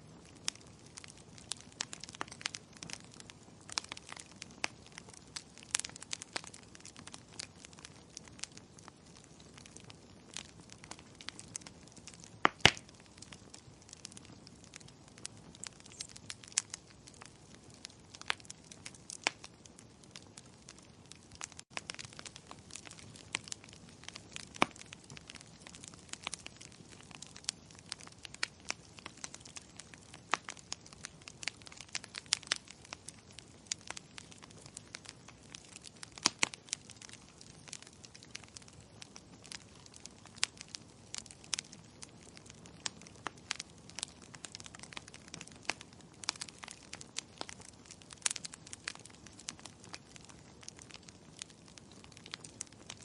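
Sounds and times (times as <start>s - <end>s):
faint steady hiss: 0.0s - 53.0s
wood fire crackling: 0.0s - 53.0s.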